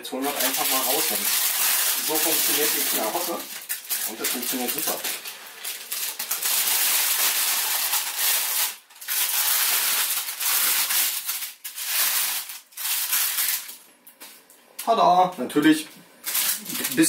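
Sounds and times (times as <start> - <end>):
parchment paper crinkling: 0.0 - 14.4, 16.2 - 17.0.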